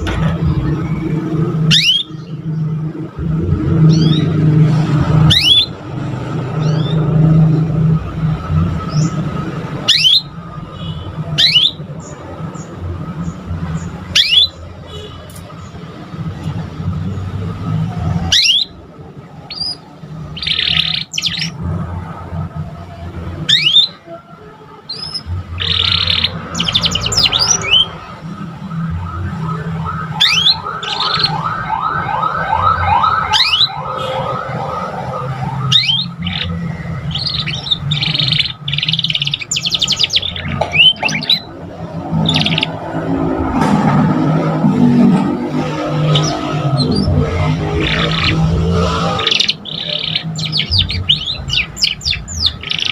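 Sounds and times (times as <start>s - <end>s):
canary singing: 0.0s - 28.9s, 30.1s - 31.5s, 33.2s - 43.4s, 45.4s - 52.9s.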